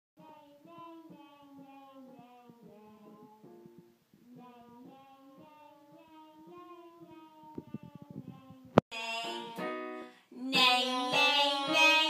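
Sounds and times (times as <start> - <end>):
boy singing: 0.2 - 12.0.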